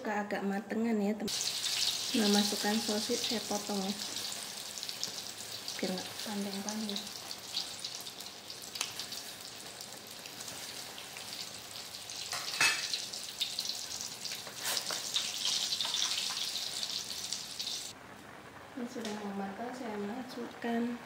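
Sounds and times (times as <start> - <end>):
soup boiling in a pot: 1.3 - 18.8.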